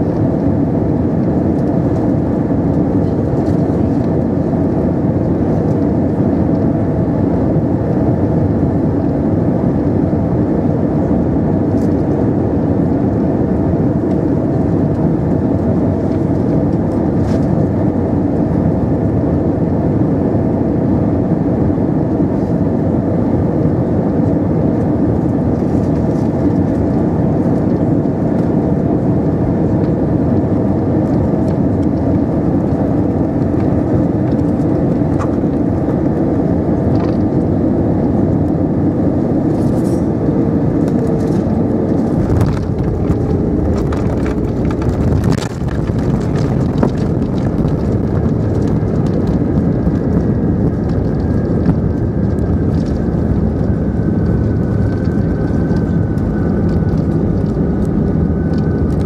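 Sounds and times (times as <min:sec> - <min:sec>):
airflow over fuselage: 0:00.0 - 0:59.0
airplane engines rumbling: 0:00.0 - 0:59.0.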